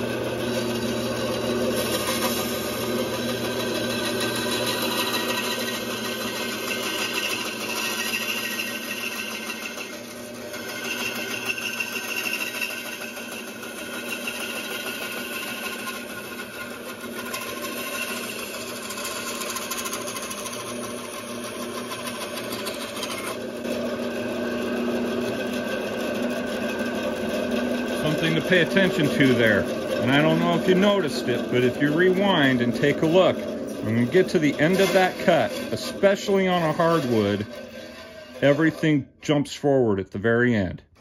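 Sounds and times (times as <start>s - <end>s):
bandsaw cutting wood: 0.0s - 39.8s.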